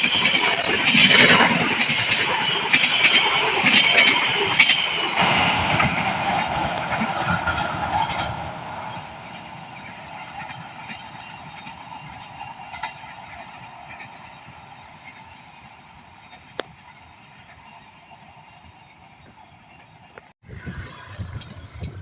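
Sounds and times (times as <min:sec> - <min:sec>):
wheels clicking over rail joints: 0:00.0 - 0:18.2
train passing: 0:00.0 - 0:22.0.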